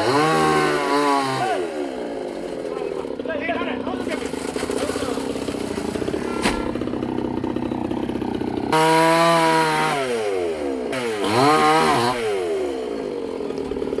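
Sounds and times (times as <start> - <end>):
chainsaw idling and revving: 0.0 - 14.0.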